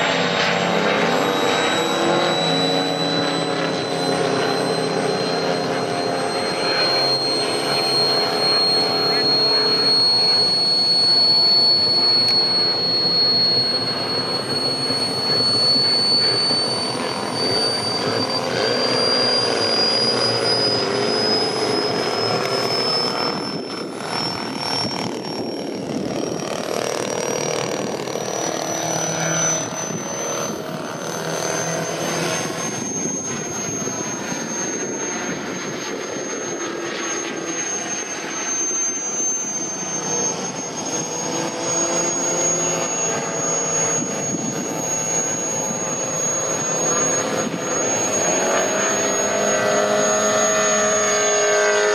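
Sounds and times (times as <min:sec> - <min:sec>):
model airplane engine droning: 0:00.0 - 0:51.9
thin high whistle: 0:00.1 - 0:51.9.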